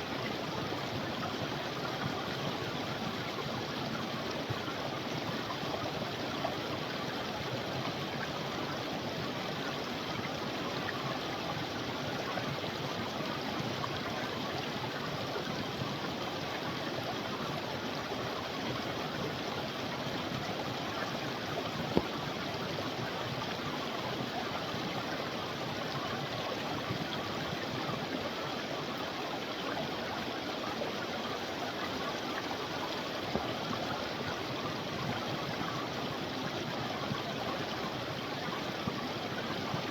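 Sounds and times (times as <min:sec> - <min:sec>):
creek water running: 0:00.0 - 0:39.9.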